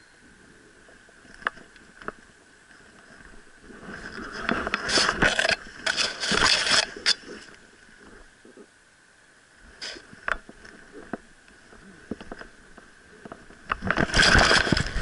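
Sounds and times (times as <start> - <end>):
grass and clothing rustling: 0.3 - 8.7, 9.5 - 15.0.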